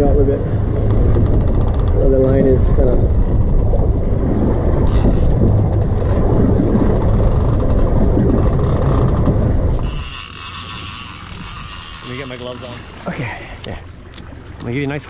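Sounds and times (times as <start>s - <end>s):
boat motor: 0.0s - 15.0s
wind rumble: 0.0s - 15.0s.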